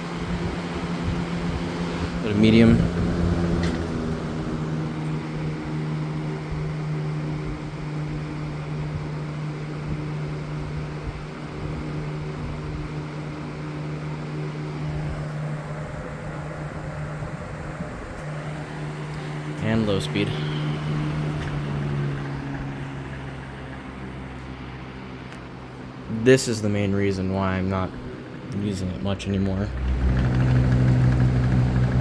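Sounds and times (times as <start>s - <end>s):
fan motor hum: 0.0s - 32.0s.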